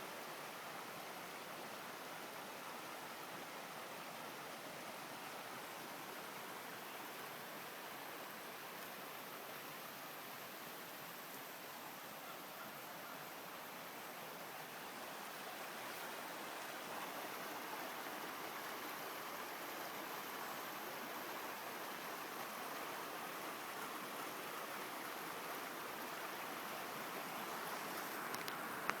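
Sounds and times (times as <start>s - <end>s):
brook babbling over rocks: 0.2s - 29.0s.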